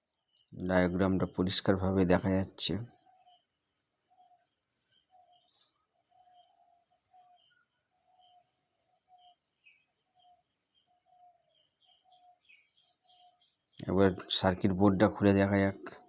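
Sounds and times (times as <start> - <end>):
faint birds and insects chirping: 0.0 - 16.0.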